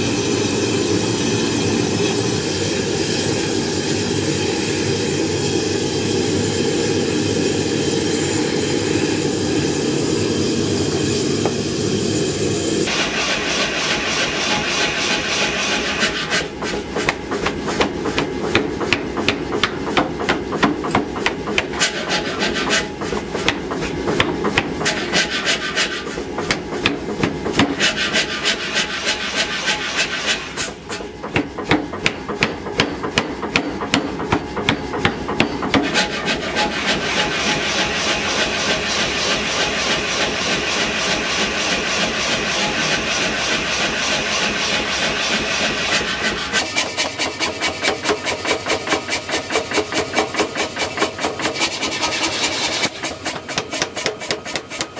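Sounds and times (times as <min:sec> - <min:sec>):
power hammer striking hot metal: 0:00.2 - 0:28.4, 0:29.2 - 0:54.9.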